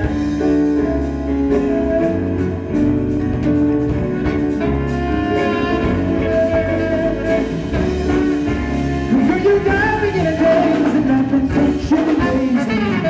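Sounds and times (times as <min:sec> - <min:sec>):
live band playing instrumental: 0:00.0 - 0:13.0.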